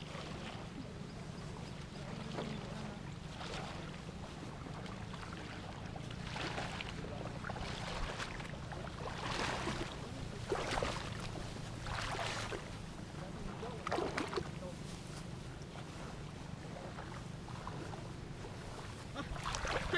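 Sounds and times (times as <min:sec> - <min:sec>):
footsteps splashing in shallow water: 0:00.0 - 0:19.9
steady low rumble: 0:00.0 - 0:19.9.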